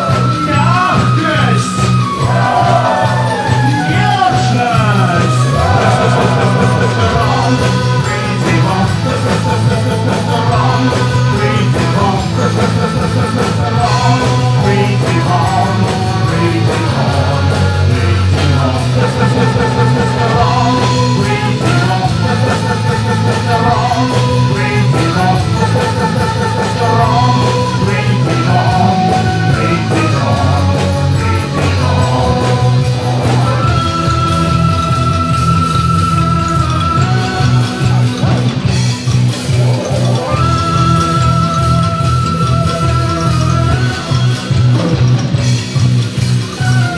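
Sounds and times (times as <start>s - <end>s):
man singing: 0.0s - 38.8s, 39.6s - 45.4s
bass guitar: 0.0s - 46.9s
drums: 0.0s - 46.9s
electric guitar: 0.0s - 46.9s
keyboard: 0.0s - 46.9s.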